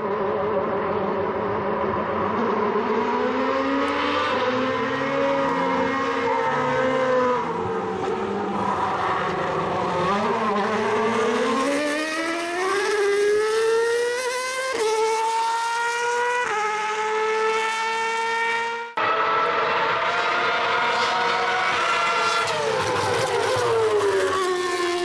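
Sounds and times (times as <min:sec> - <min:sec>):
racing car engine accelerating: 0:00.1 - 0:25.0.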